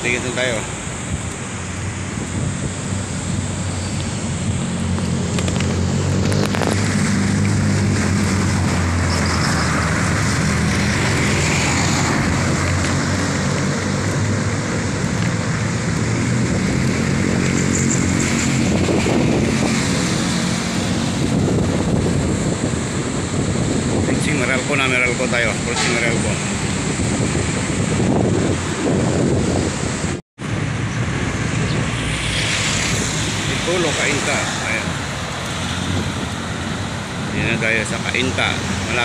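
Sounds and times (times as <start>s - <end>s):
car and motorcycle engines: 0.0s - 39.0s
wind rushing over microphone: 0.0s - 39.0s.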